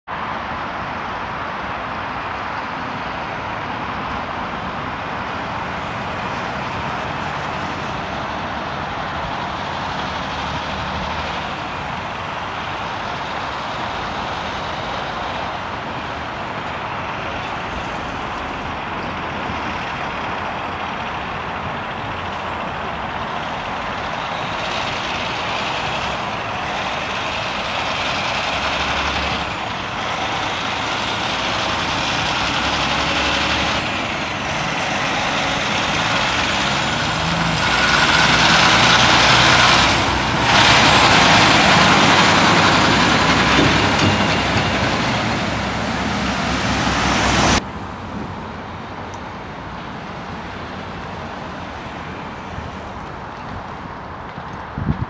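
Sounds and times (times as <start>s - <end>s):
diesel truck engine and road noise: 0.0s - 55.0s.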